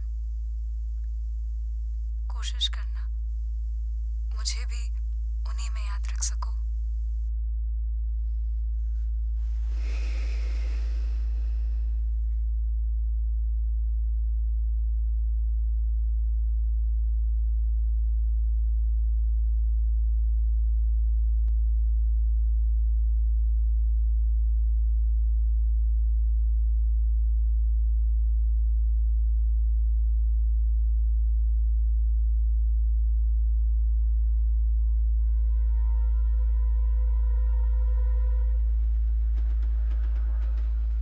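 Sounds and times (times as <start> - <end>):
deep low drone: 0.0 - 41.0.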